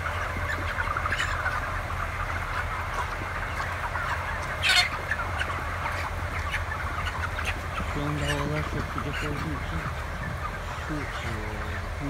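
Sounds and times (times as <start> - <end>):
chicken squawk: 0.0 - 12.0
flock of chickens clucking: 0.0 - 12.0
steady low hum: 0.0 - 12.0.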